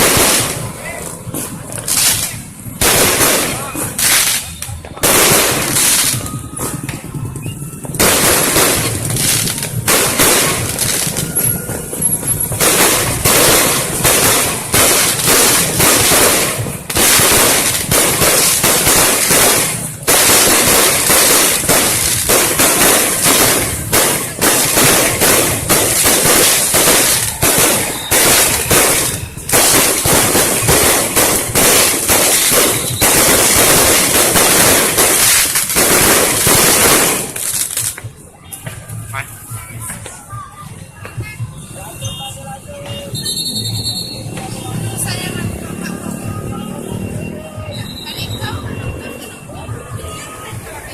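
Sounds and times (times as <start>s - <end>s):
fireworks cracking and banging: 0.0s - 50.9s.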